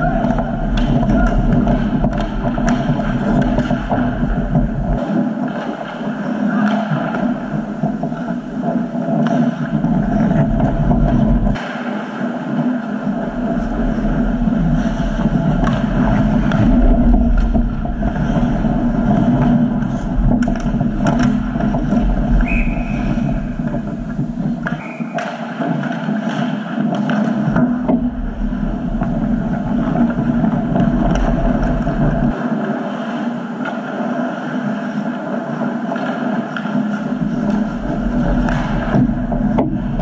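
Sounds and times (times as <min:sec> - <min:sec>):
hockey sticks and puck clacking: 0:00.0 - 0:40.0
low rink rumble: 0:00.0 - 0:40.0.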